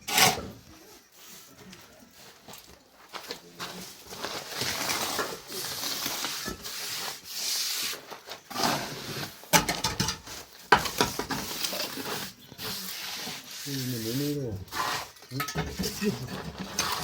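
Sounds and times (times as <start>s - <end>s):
scraping and rubbing: 0.0s - 2.4s, 3.1s - 17.0s.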